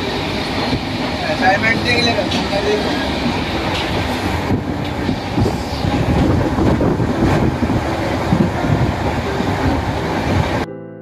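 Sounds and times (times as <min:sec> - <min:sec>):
train coach rumbling and rattling: 0:00.0 - 0:10.7.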